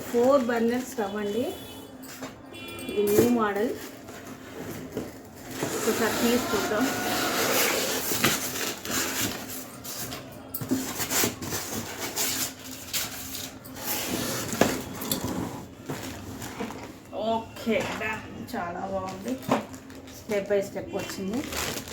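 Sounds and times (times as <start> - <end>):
packaging rustling and scraping: 0.0 - 21.9.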